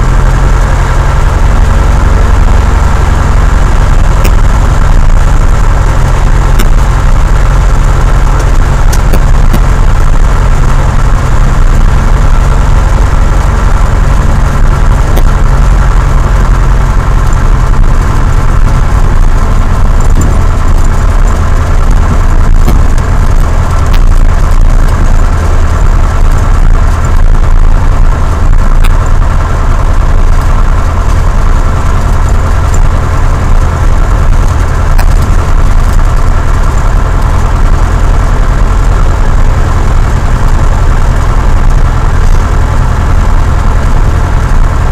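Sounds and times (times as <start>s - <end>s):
propeller plane engine drone: 0.0s - 44.9s.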